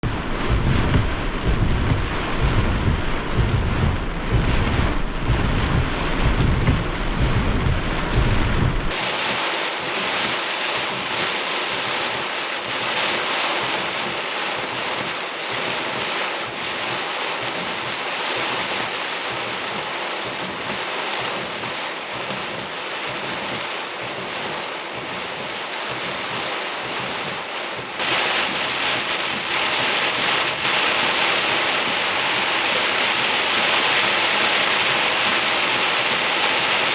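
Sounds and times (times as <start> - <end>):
heavy rain hiss: 0.0 - 36.9
wind gusting across microphone: 0.0 - 36.9.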